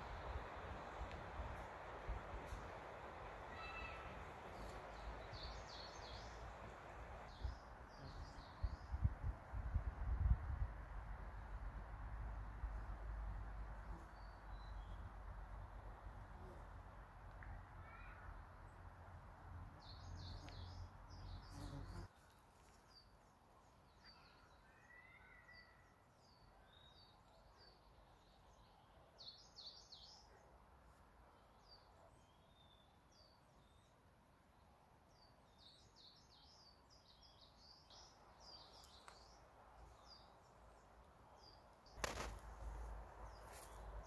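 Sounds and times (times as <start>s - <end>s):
songbirds chirping: 0.0s - 9.5s, 12.5s - 44.0s.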